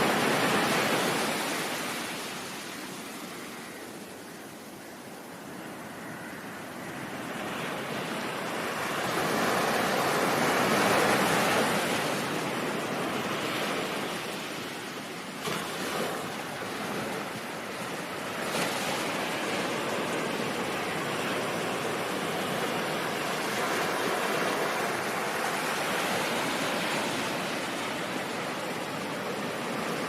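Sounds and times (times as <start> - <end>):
ocean surf waves: 0.0 - 30.0.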